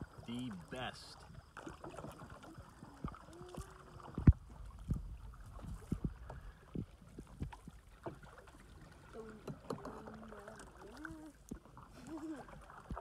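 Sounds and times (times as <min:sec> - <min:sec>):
paddle strokes: 0:00.0 - 0:13.0
water splashing against hull: 0:00.0 - 0:13.0.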